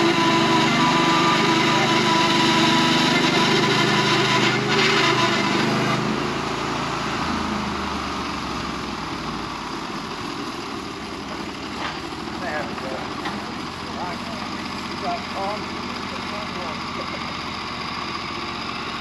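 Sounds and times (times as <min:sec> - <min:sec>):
sawmill gas engine running: 0:00.0 - 0:19.0.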